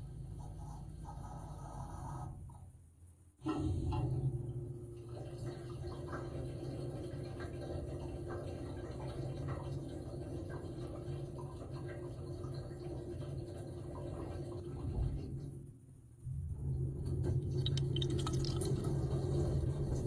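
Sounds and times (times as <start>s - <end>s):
dishwasher pump hum: 3.4s - 20.0s.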